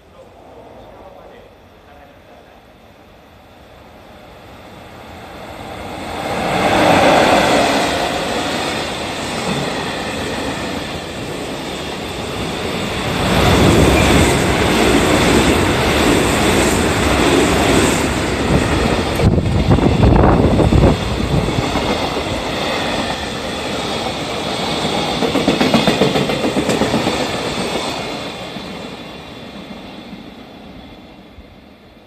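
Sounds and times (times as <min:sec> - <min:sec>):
electric train passing: 0:00.0 - 0:32.0
freight train passing: 0:00.0 - 0:32.0
train wheels rolling: 0:04.8 - 0:31.3.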